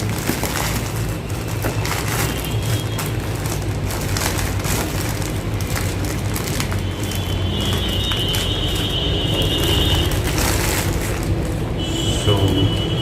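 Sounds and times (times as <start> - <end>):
packaging crackling and tearing: 0.0 - 13.0.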